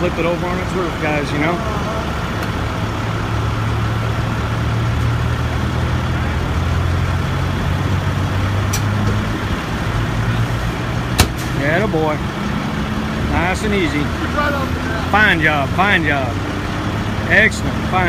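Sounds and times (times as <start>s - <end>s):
heavy truck engine droning: 0.0s - 18.0s.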